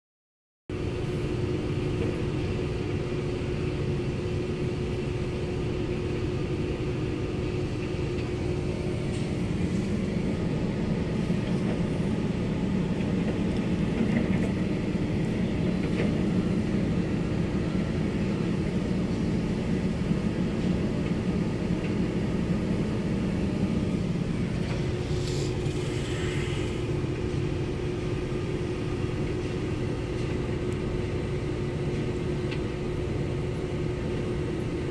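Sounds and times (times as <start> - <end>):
diesel engine rumbling: 0.7 - 34.9.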